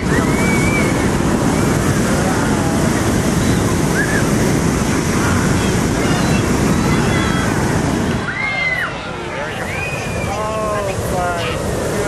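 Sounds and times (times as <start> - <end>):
crowd voices: 0.0 - 12.0
faint children's voices: 0.0 - 12.0
wind buffeting microphone: 0.0 - 12.0.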